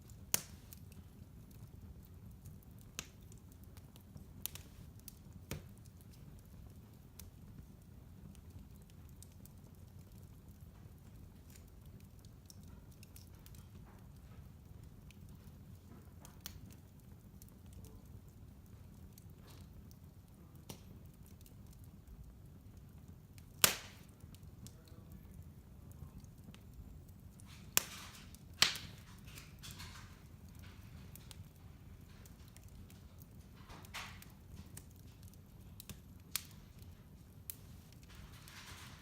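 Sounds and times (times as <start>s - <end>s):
fire rumbling: 0.0s - 39.0s
wood crackling and popping: 0.0s - 39.0s.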